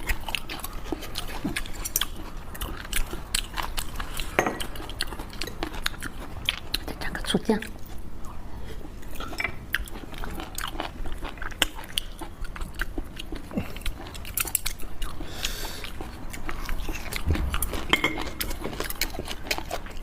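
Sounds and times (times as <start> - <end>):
person chewing close up: 0.0 - 20.0.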